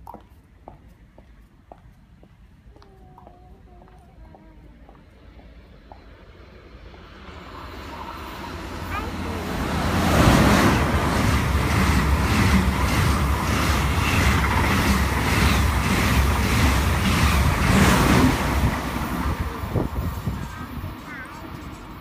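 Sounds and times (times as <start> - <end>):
high-speed train rushing past: 4.2 - 22.0.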